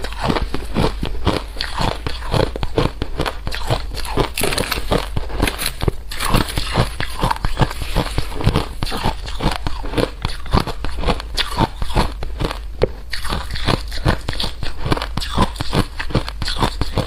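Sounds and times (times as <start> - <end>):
crunchy food being chewed: 0.0 - 17.0.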